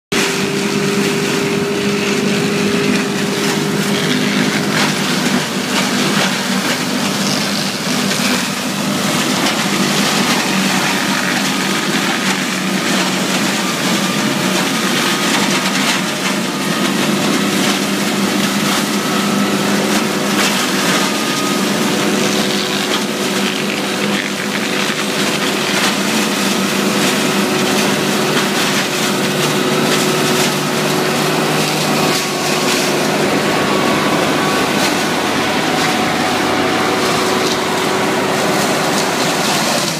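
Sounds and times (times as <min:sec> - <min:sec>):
crackle of leaves being shredded: 0:00.1 - 0:39.9
tractor engine and rotor hum: 0:00.1 - 0:39.9.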